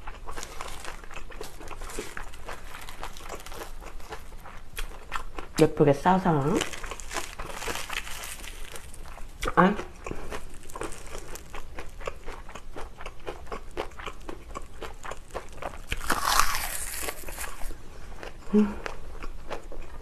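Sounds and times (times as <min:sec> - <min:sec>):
chewing with wet crunches: 0:00.0 - 0:05.7, 0:06.3 - 0:20.0.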